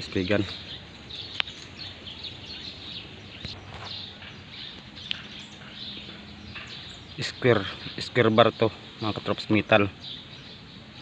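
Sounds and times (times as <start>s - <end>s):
bird chirps: 0.0s - 11.0s
steady background hiss: 0.0s - 11.0s.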